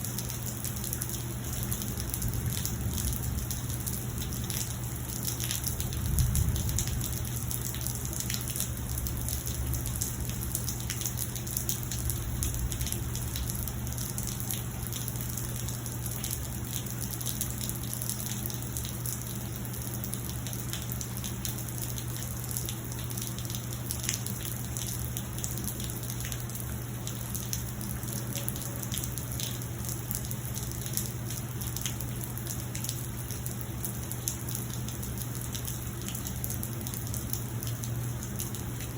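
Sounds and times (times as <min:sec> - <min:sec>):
raindrop ticks: 0:00.0 - 0:38.9
steady rain: 0:00.0 - 0:38.9.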